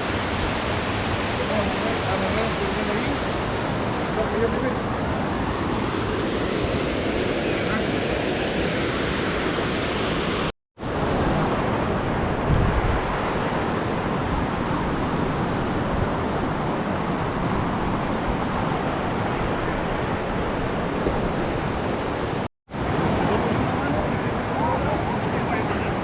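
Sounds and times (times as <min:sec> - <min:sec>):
wind rumble on microphone: 0:00.0 - 0:24.3
waterfall and river roaring: 0:00.0 - 0:26.0.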